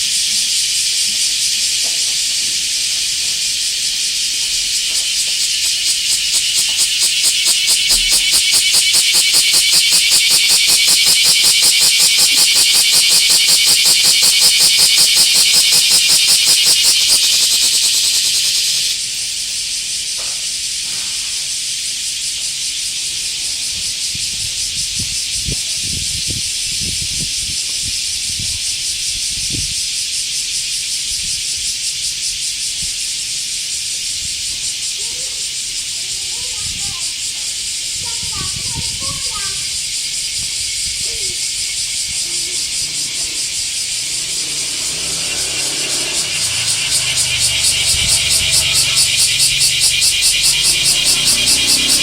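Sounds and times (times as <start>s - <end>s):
cicada buzzing: 0.0s - 52.0s.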